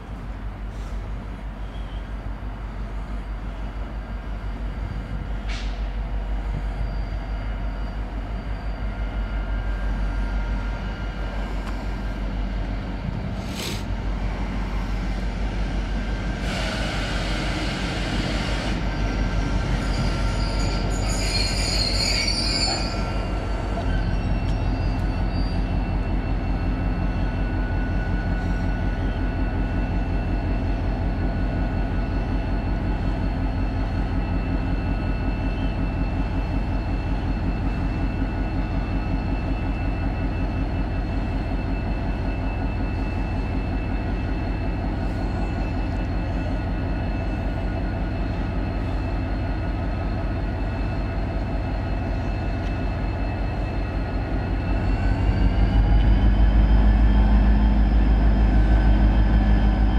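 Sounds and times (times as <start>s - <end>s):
diesel locomotive engine rumbling: 0.0s - 59.9s
train wheels squealing: 0.5s - 59.9s.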